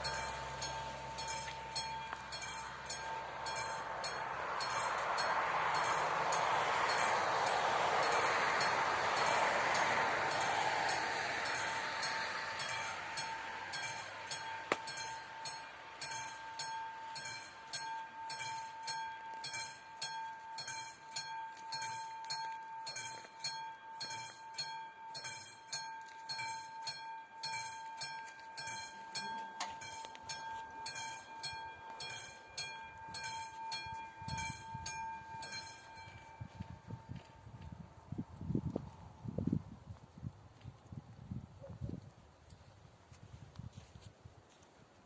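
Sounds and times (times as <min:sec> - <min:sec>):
level crossing warning bell: 0:00.0 - 0:38.0
passing train: 0:00.0 - 0:45.0.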